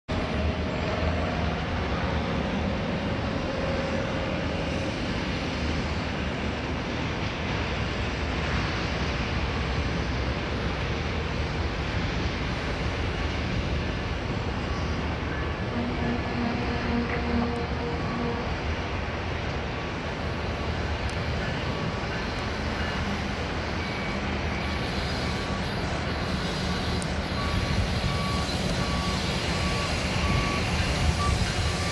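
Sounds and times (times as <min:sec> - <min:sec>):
diesel locomotives rumbling: 0:00.1 - 0:31.9.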